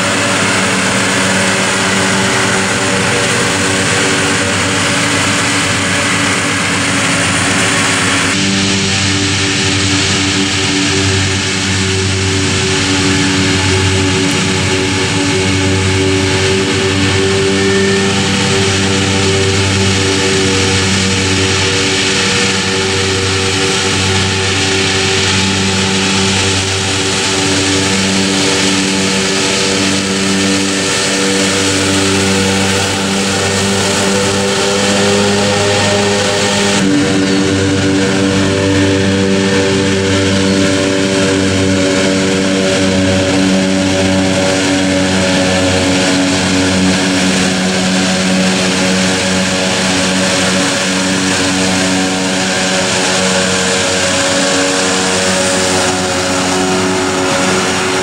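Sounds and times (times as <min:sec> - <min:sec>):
diesel engine hum: 0:00.0 - 0:58.0
disc mowers hissing: 0:00.0 - 0:58.0.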